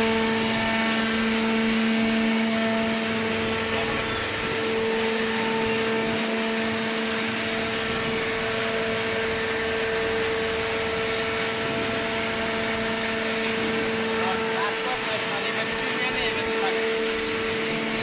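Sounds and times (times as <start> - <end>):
hydraulic power unit humming: 0.0 - 18.0.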